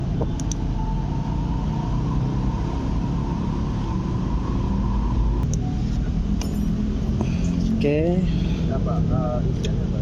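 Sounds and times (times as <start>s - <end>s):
motor vehicle rumble: 0.0s - 10.0s.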